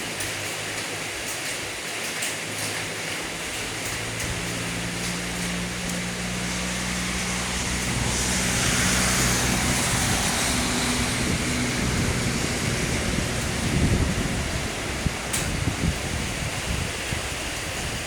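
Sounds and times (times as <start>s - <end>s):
rain falling: 0.0s - 18.0s
low engine hum: 3.2s - 18.0s.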